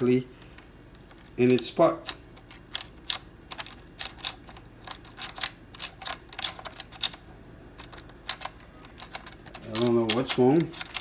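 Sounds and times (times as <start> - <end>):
metal parts clicking and tapping: 0.0 - 7.2, 7.8 - 11.0.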